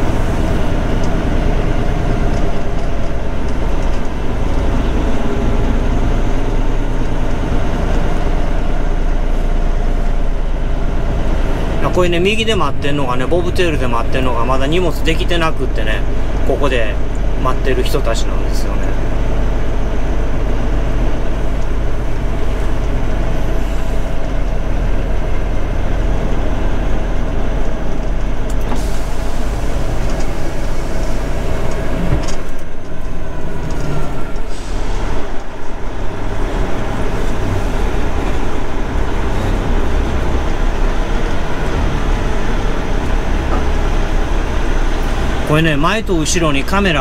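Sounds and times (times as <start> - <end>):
truck diesel engine rumble: 0.0 - 47.0.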